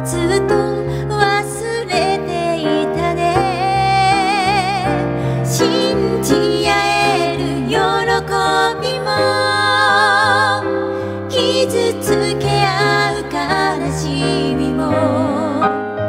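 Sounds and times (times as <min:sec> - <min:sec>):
piano accompaniment: 0:00.0 - 0:16.0
woman singing pop ballad: 0:00.0 - 0:16.0.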